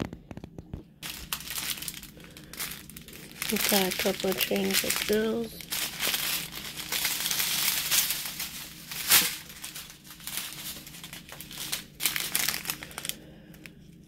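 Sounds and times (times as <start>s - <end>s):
plastic bags crinkling: 1.0s - 14.0s.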